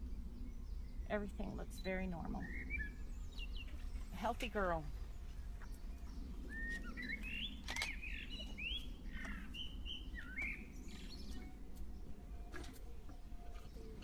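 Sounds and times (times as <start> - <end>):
low background rumble: 0.0 - 14.0
songbird chirping and whistling: 0.0 - 14.0.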